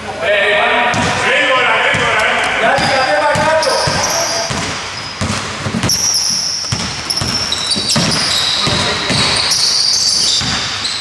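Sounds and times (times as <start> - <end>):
basketball bouncing: 0.9 - 1.2, 1.9 - 11.0
sneakers squeaking on floor: 1.9 - 11.0.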